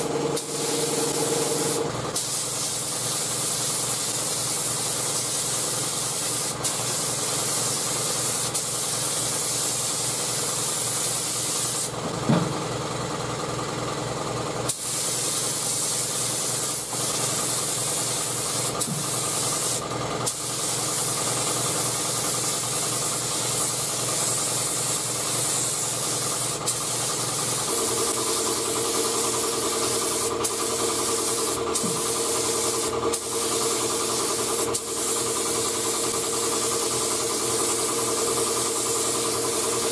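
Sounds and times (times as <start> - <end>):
spray gun hissing: 0.0 - 11.9, 14.7 - 39.9
steady mechanical hum: 0.0 - 39.9.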